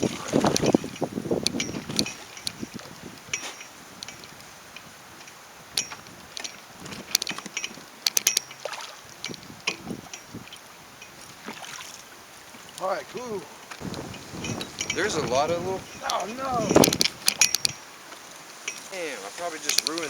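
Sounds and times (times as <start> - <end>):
faint wind hiss: 0.0 - 20.0
light clicks and knocks on boat: 0.0 - 20.0.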